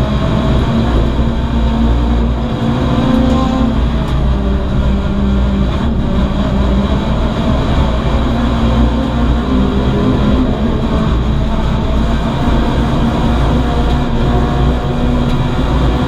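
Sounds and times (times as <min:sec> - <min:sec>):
race car engine drone: 0:00.0 - 0:16.0
road and wind noise: 0:00.0 - 0:16.0.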